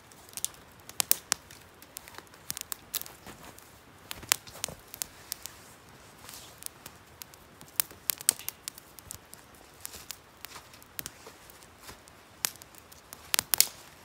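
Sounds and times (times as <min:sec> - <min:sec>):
campfire crackling: 0:00.0 - 0:14.0
fire popping and snapping: 0:00.0 - 0:14.0.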